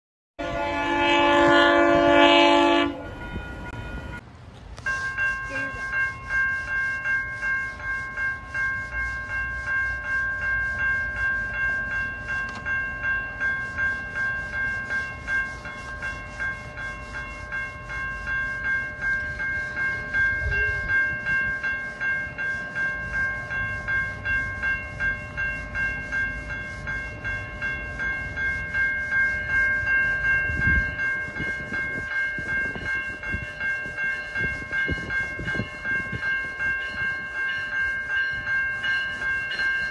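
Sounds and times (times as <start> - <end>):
low rumble of approaching train: 0.4 - 39.9
railroad crossing bell ringing: 0.4 - 39.9.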